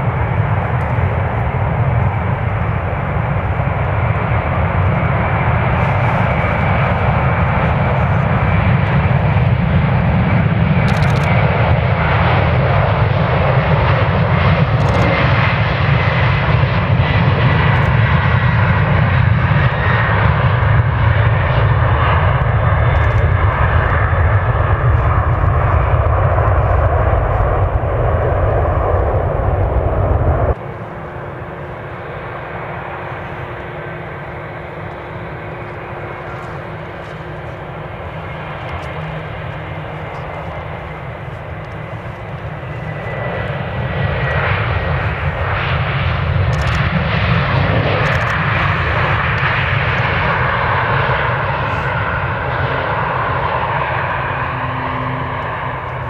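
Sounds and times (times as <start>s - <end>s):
jet engines deep rumble: 0.0s - 56.0s
quieter jet engine: 0.0s - 56.0s.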